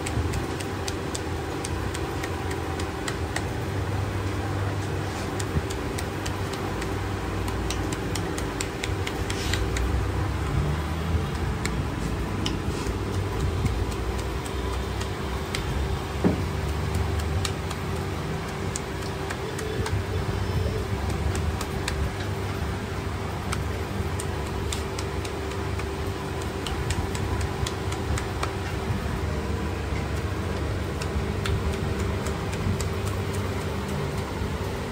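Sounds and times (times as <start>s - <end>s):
background hum and din: 0.0s - 34.9s.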